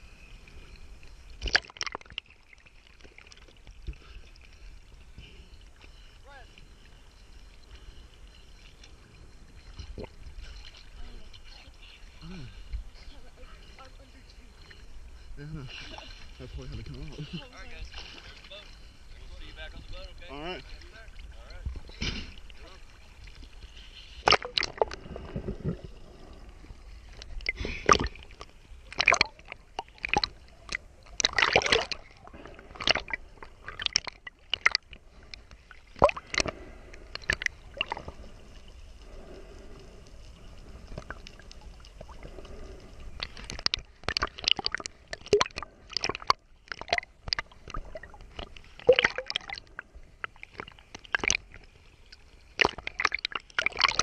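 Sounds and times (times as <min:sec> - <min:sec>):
sea water sloshing and splashing: 0:00.0 - 0:54.0.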